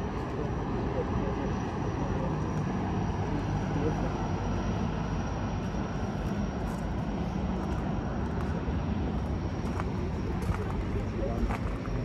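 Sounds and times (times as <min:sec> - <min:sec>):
hydrofoil engine drone: 0:00.0 - 0:12.0.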